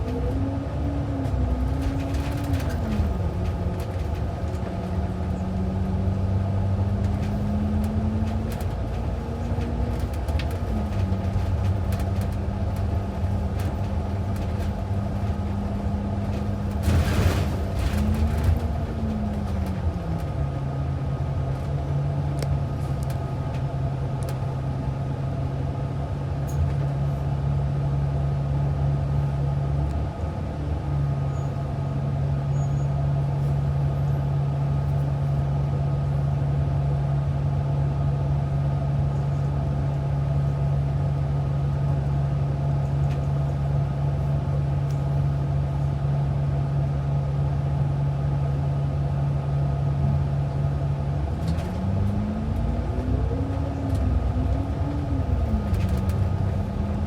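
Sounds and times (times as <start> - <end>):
bus engine humming: 0.0 - 57.0.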